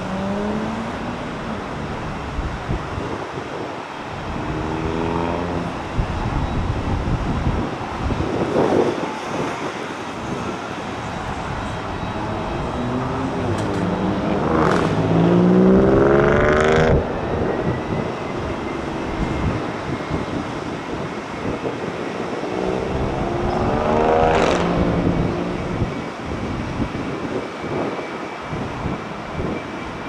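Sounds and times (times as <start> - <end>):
vehicles accelerating past: 0.0 - 6.2, 8.5 - 27.2.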